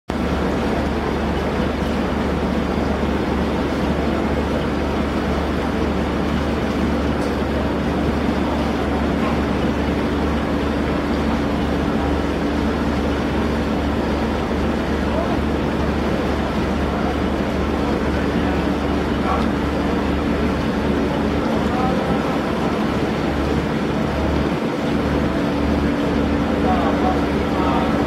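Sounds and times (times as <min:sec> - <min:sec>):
diesel engine drone: 0:00.1 - 0:28.0.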